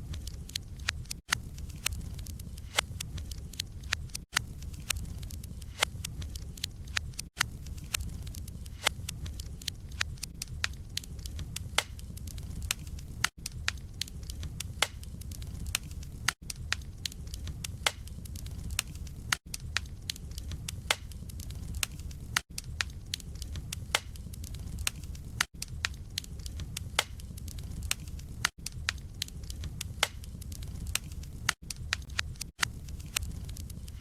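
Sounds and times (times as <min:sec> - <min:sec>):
burning logs crackling: 0:00.0 - 0:34.0
fire low rumble: 0:00.0 - 0:34.0.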